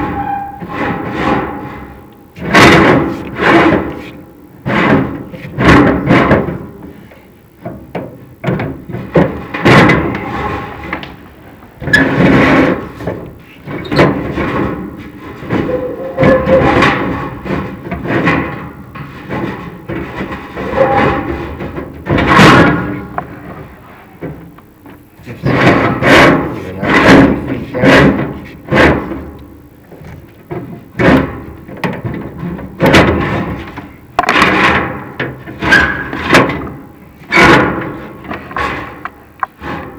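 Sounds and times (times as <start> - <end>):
rods scraping against metal flue: 0.0 - 39.9.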